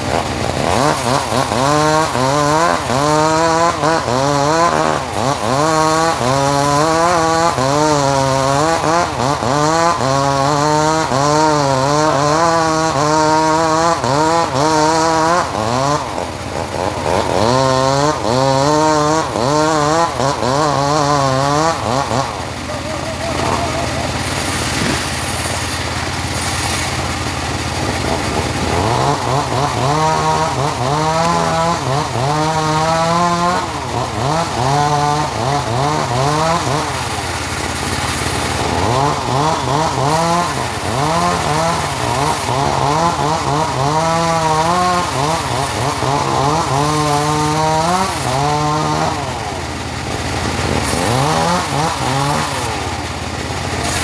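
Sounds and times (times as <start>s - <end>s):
sawmill engine and blade cutting wood: 0.0s - 54.0s.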